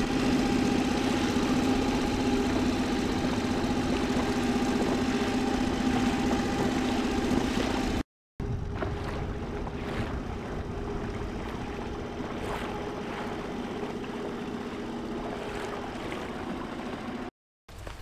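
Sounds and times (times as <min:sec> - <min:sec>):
outboard motor running: 0:00.0 - 0:17.3
water noise: 0:00.0 - 0:18.0.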